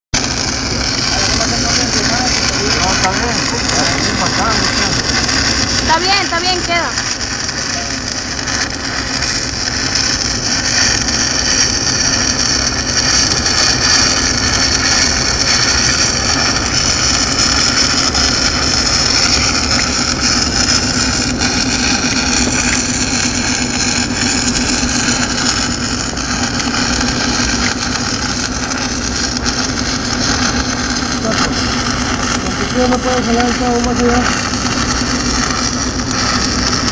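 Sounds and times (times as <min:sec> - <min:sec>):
high continuous machinery whistle: 0:00.2 - 0:36.9
low machinery hum: 0:00.2 - 0:36.9.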